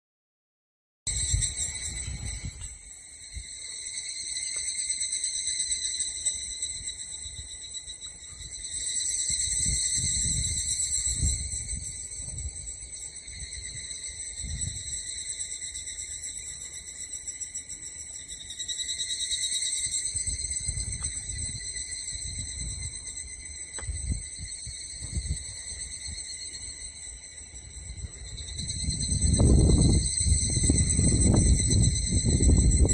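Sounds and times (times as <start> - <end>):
cicadas trilling: 1.1 - 32.9.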